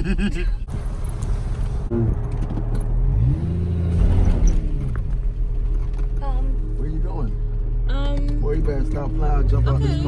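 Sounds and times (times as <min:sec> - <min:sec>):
car engine revving: 0:00.8 - 0:10.0.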